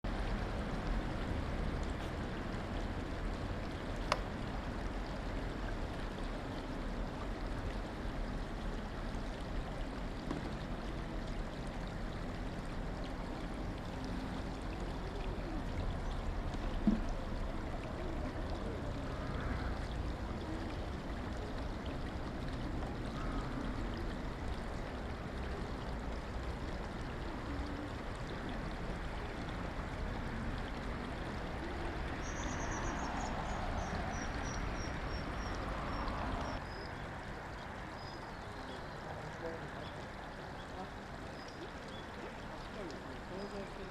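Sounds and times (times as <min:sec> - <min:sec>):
river water flowing: 0:00.1 - 0:43.9.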